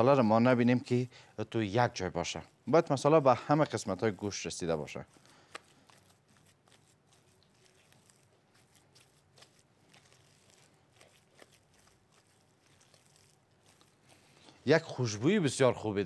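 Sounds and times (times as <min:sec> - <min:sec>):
minced meat being mixed: 0:00.0 - 0:15.4.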